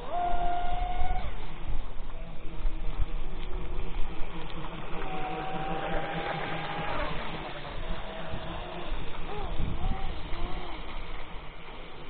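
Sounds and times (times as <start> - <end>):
speedboat motor whine: 0.0 - 12.0.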